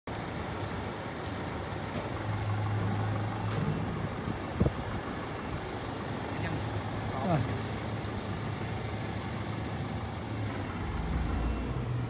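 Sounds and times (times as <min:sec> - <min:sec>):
vehicle noise: 0:00.1 - 0:12.0
low engine drone: 0:02.2 - 0:12.0.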